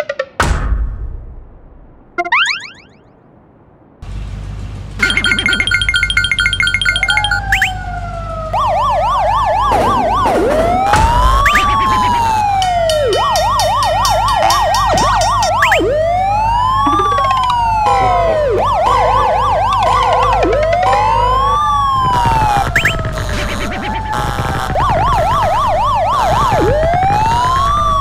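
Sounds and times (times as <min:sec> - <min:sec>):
police siren wailing and yelping: 0:05.0 - 0:28.0.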